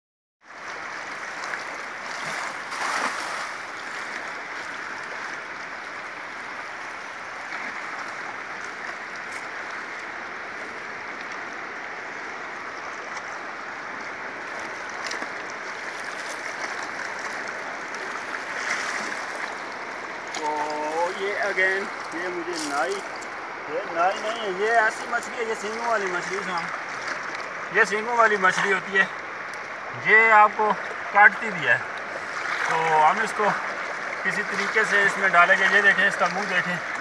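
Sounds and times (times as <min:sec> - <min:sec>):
fast-flowing river rushing: 0:00.4 - 0:37.0.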